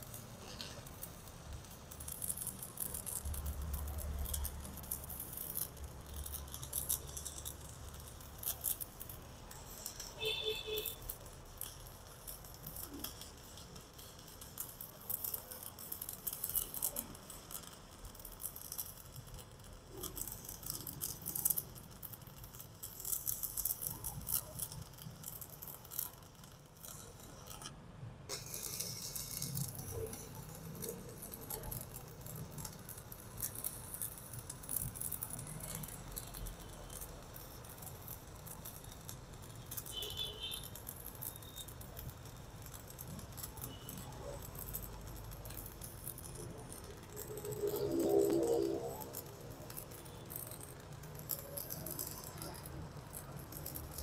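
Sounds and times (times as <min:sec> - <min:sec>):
welding arc crackling: 0:00.0 - 0:54.0.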